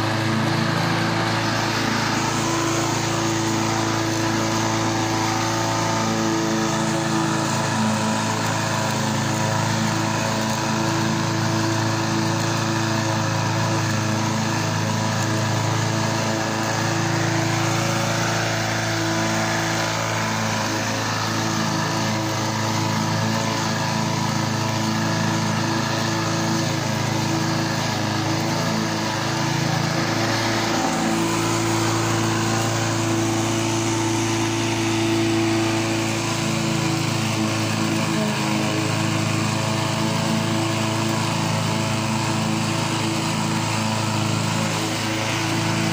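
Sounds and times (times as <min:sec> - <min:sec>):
lawnmower engine running: 0:00.0 - 0:45.9.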